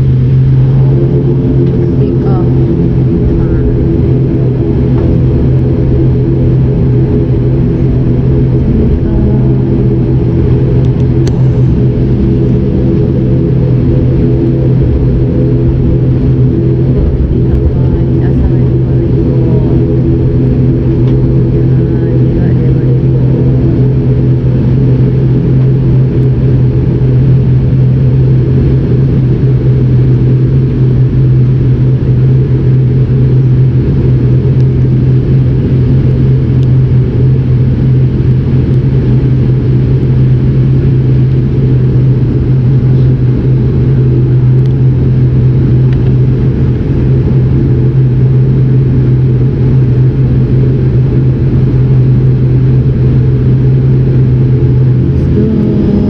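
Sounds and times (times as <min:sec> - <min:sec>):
turboprop engine drone: 0:00.0 - 0:56.0.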